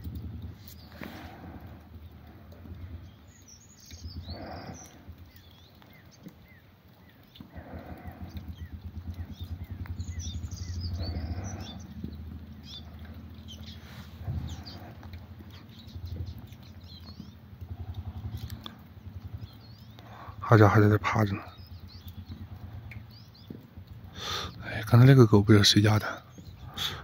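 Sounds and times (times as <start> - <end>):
small birds chirping: 0.0 - 27.0
steady low rumble: 0.0 - 27.0.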